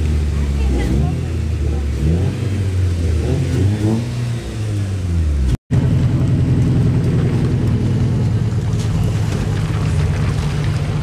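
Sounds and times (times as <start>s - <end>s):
car driving slowly past: 0.0s - 11.0s
car engine revving: 0.0s - 11.0s.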